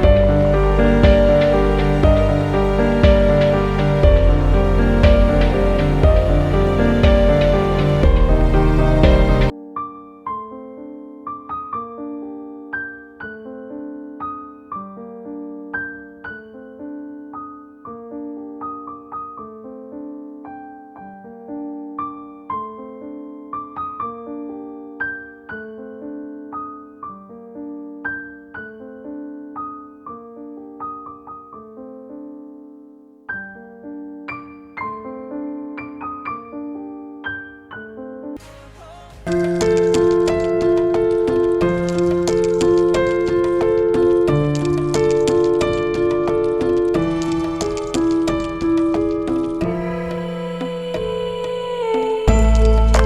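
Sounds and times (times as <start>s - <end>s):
gentle solo piano music: 0.0s - 38.5s, 39.2s - 53.0s.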